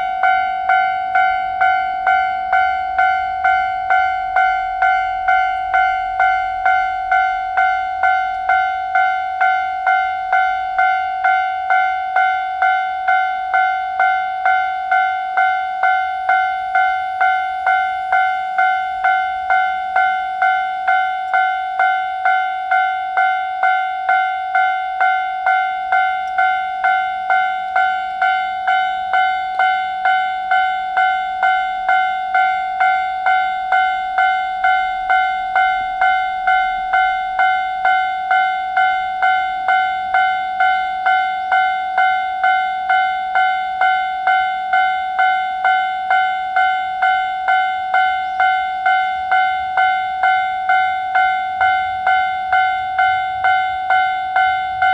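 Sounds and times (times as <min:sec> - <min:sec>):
level-crossing warning bell: 0:00.0 - 0:54.9.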